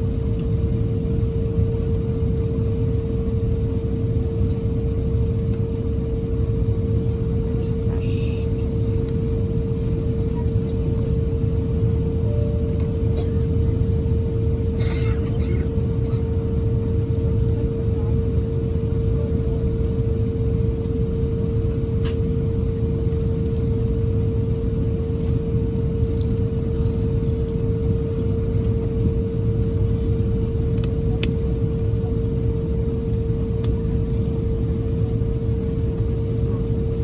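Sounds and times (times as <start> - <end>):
jet engine cabin rumble: 0.0 - 37.0
mid-pitched hum: 0.0 - 37.0.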